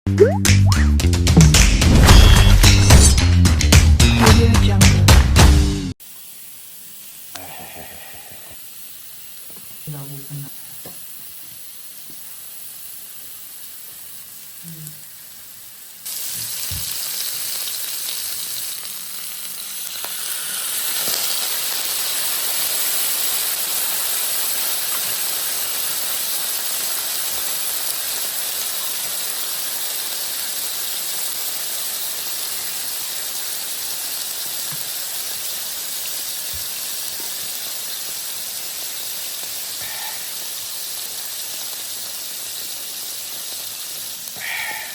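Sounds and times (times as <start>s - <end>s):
food sizzling in hot oil: 0.1s - 4.5s, 5.6s - 44.9s.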